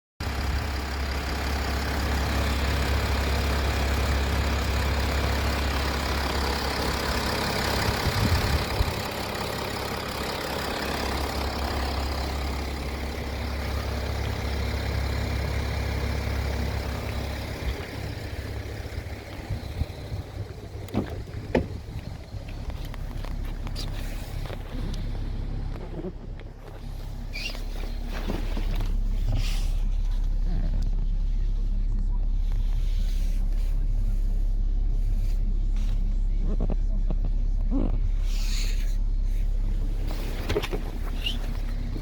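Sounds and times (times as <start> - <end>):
car engine idling: 0.2 - 42.0.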